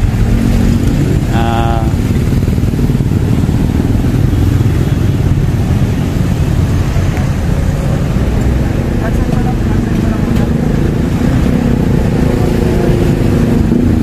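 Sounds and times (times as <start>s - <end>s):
motorcycles: 0.0s - 14.0s
road traffic passing: 0.0s - 14.0s.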